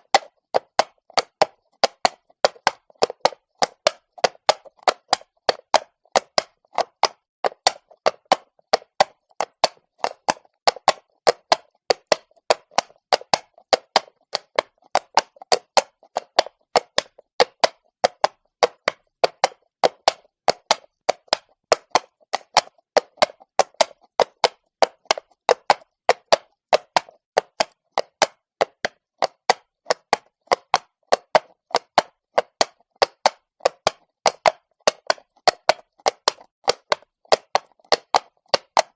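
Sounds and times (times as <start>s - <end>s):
horse hooves on stone: 0.1s - 38.9s.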